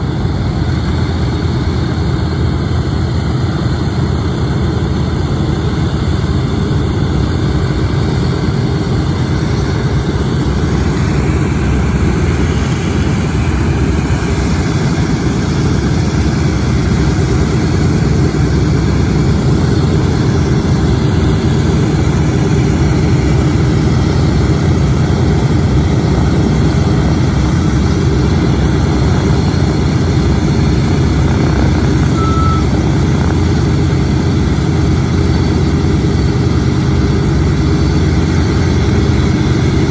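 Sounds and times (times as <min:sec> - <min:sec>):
deep propeller engine drone: 0:00.0 - 0:39.9.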